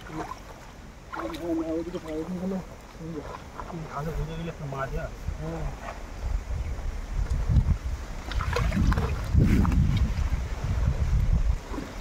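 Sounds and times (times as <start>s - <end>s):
wind buffeting microphone: 1.0s - 12.0s.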